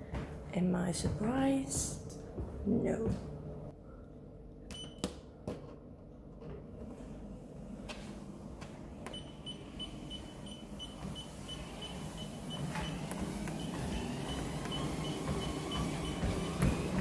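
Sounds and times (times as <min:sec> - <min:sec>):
treadmill motor and belt rumble: 0:00.0 - 0:05.0, 0:05.6 - 0:17.0.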